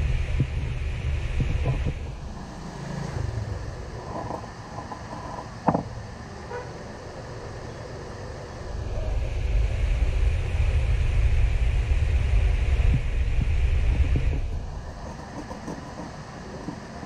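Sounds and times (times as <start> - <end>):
vehicle passing rumble: 0.0 - 17.0.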